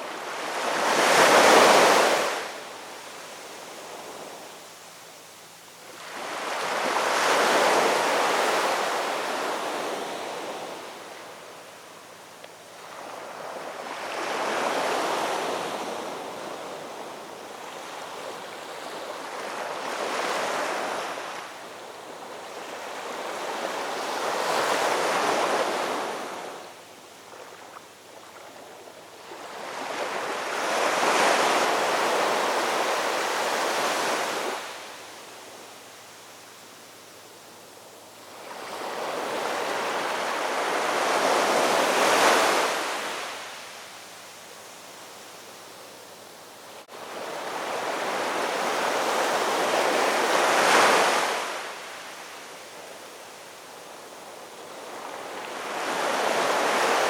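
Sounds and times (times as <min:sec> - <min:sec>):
ocean waves breaking on shore: 0:00.0 - 0:04.6, 0:05.8 - 0:36.8, 0:37.6 - 0:57.0.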